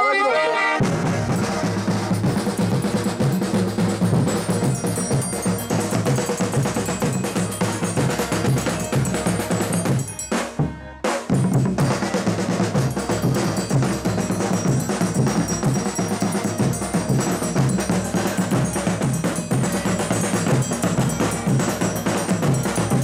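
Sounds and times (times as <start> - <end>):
snare drums beating: 0.8 - 23.0.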